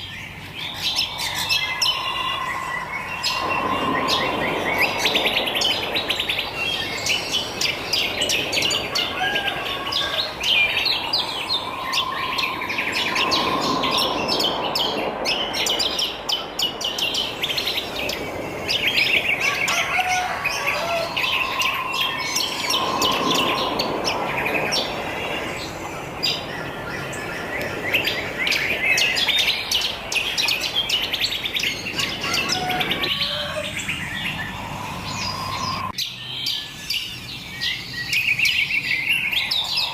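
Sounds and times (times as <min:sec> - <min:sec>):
birds chirping and trilling: 0:00.0 - 0:39.9
lower steady bird call: 0:00.0 - 0:39.9.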